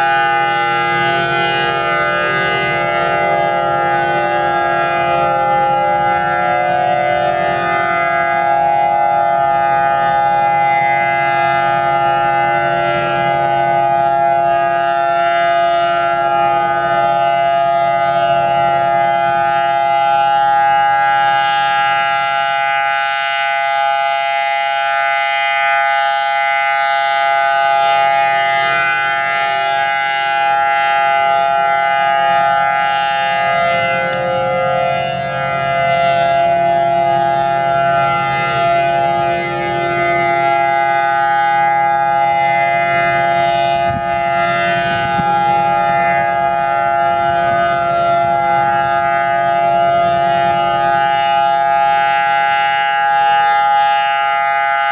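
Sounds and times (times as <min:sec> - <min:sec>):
rotating tornado siren: 0:00.0 - 0:54.9.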